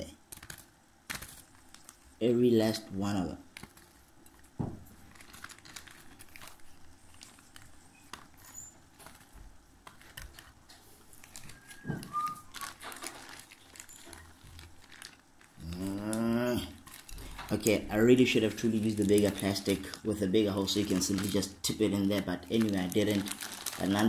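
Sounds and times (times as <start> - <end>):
dry plant buds rustling: 3.1 - 24.0.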